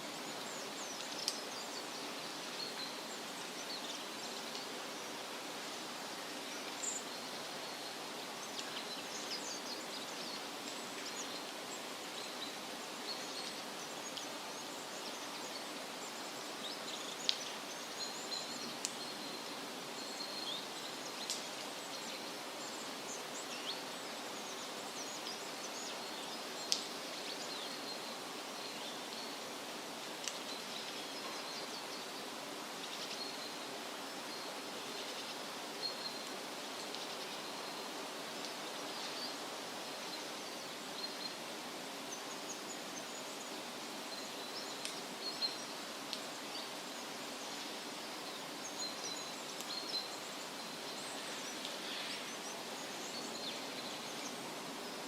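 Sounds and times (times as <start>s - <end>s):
small birds chirping: 0.0s - 55.0s
wind rustling through leaves: 0.0s - 55.0s.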